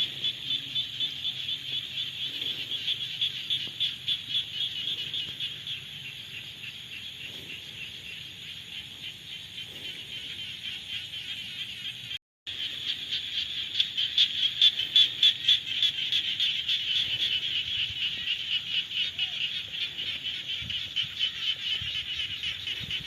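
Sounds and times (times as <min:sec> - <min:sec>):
chorus of frogs calling: 0:00.0 - 0:23.0.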